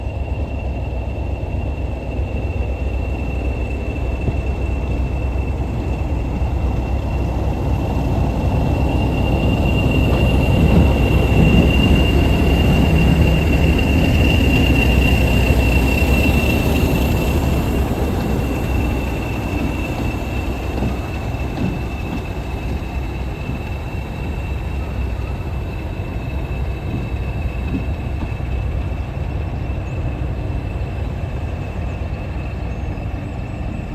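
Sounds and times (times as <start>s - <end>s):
diesel locomotive engine rumbling: 0.0s - 33.9s.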